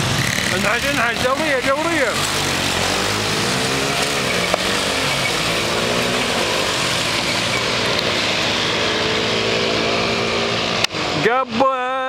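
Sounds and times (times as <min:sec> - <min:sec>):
small motorbike engines running: 0:00.0 - 0:10.8
wind and road noise: 0:00.0 - 0:11.7.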